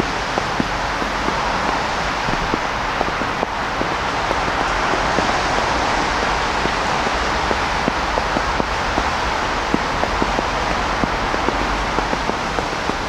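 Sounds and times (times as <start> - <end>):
street noise hiss: 0.0 - 13.0.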